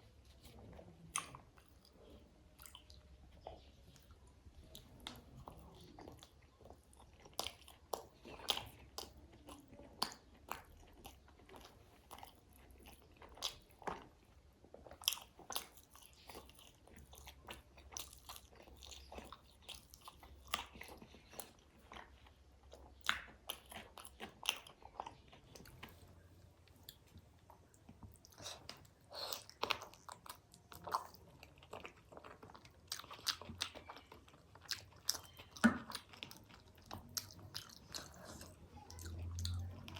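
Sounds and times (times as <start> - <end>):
person chewing crunchy food: 0.2 - 39.9.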